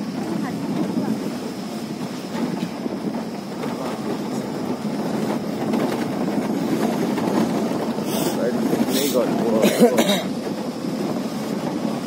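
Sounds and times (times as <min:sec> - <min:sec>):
vehicle rumbling on dirt track: 0:00.0 - 0:12.0
continuous rattle: 0:00.1 - 0:12.0.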